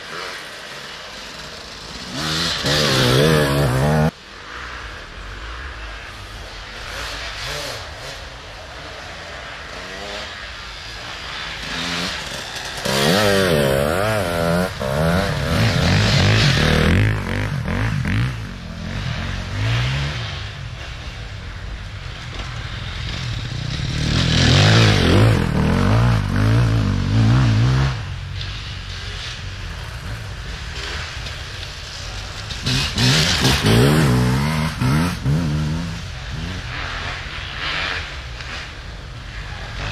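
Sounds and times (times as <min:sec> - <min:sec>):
motorcycles revving past: 0:00.0 - 0:39.9.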